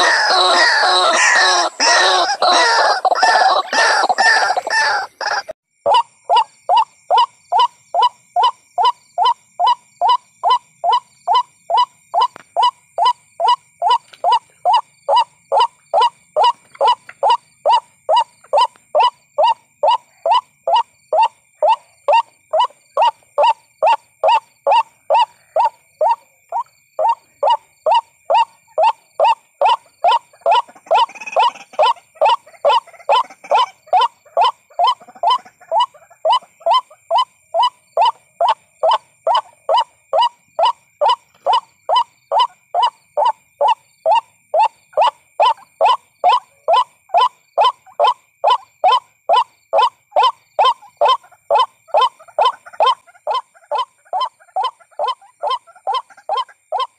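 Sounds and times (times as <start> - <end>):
waterhen calls: 0.0 - 56.9.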